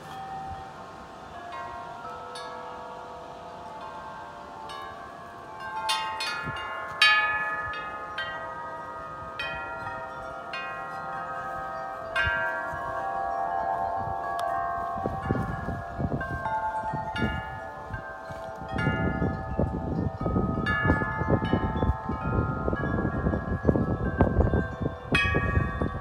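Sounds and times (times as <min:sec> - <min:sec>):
metal wind chimes ringing: 0:00.0 - 0:26.0
wind rumble on microphone: 0:04.4 - 0:26.0.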